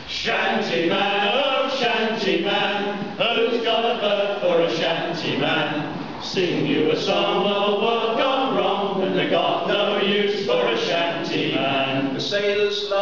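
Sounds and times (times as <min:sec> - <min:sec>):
men singing a sea shanty: 0:00.0 - 0:13.0.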